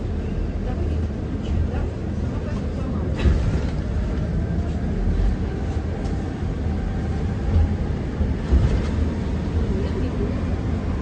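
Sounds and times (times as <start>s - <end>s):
road rumble in bus cabin: 0.0s - 11.0s.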